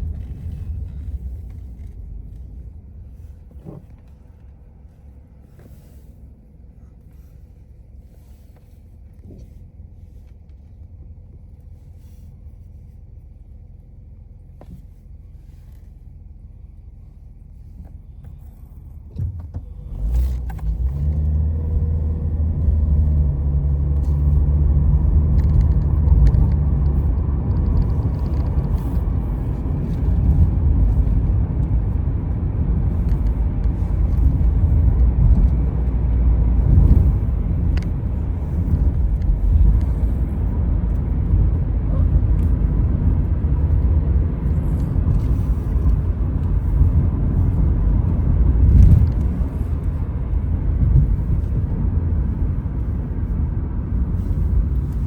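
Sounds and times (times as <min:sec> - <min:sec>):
faint low rumble: 0:00.0 - 0:55.0.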